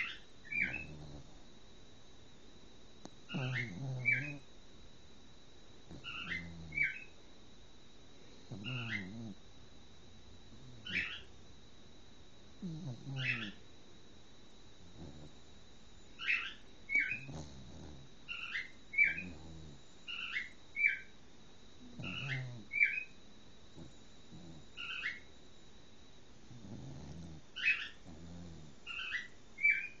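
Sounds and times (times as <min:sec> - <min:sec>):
dog snoring with squeaky whistles: 0:00.0 - 0:01.7, 0:03.0 - 0:04.6, 0:05.8 - 0:07.2, 0:08.2 - 0:13.8, 0:14.4 - 0:30.0.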